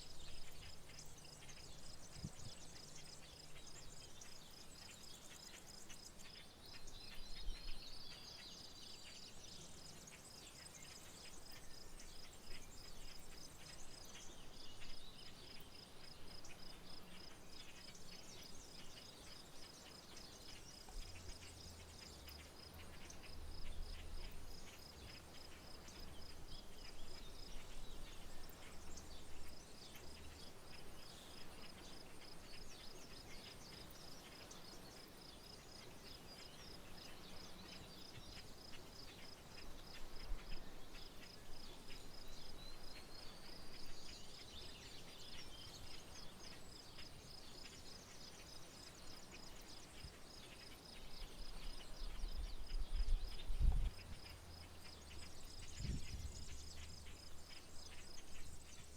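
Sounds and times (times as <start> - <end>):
bird chirps: 0.0 - 58.9.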